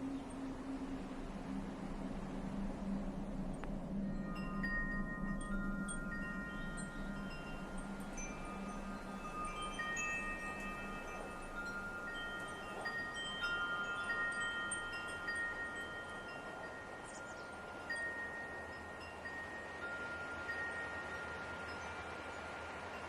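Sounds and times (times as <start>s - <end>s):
metal wind chimes ringing: 0.0s - 23.0s
steady soft hiss: 0.0s - 23.0s.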